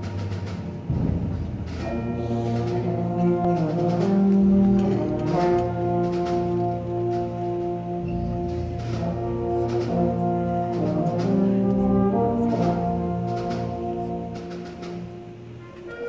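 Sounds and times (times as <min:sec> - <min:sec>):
band playing brass chords: 0:00.0 - 0:16.0
light percussion strokes: 0:00.0 - 0:16.0.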